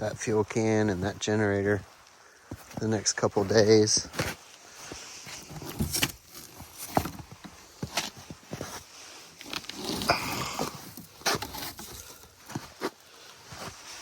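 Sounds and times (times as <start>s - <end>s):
person moving about on foot: 1.7s - 14.0s.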